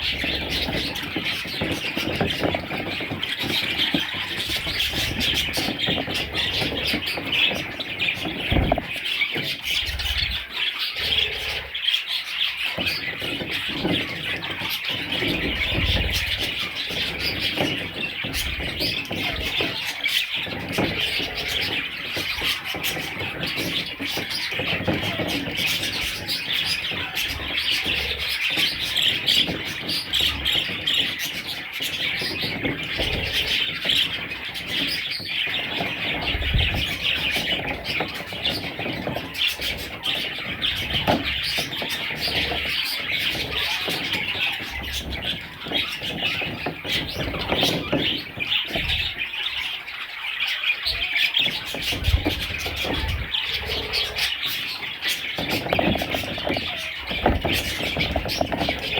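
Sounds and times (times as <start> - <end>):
budgerigars chirping: 0.0 - 58.9.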